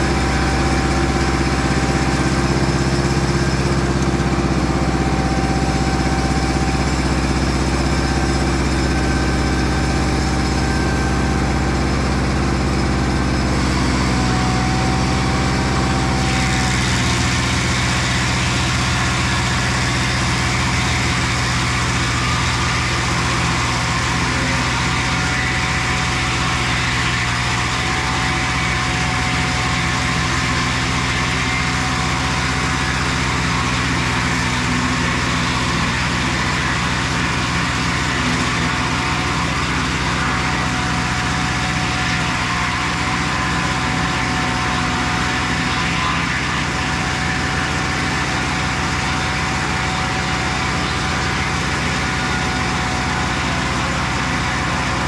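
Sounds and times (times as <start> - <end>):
sawmill engine cutting log: 0.0 - 55.0.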